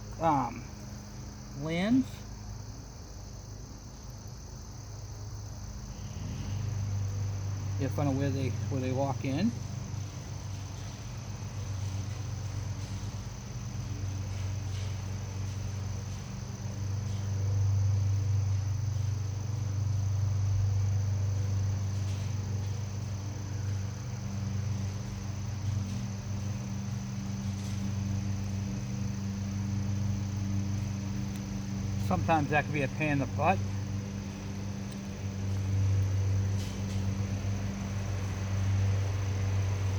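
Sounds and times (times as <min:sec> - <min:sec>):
steady low hum: 0:00.0 - 0:39.9
high steady whine: 0:05.8 - 0:39.9.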